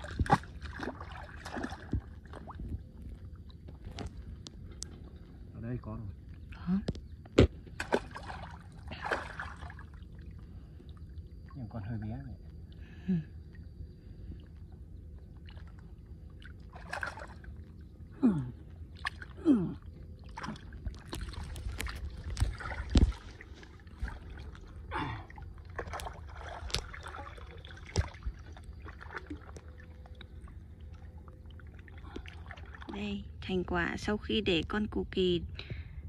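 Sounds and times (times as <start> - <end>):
muddy water sloshing: 0.0 - 34.4.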